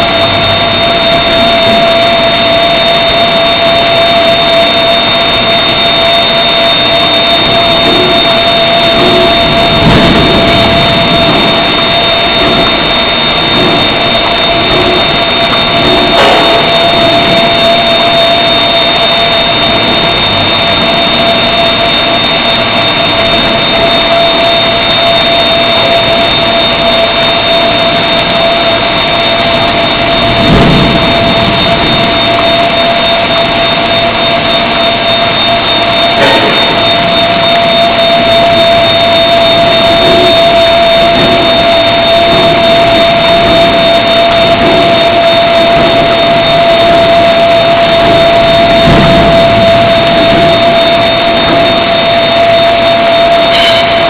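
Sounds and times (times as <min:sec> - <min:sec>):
machine whine: 0:00.0 - 0:54.0.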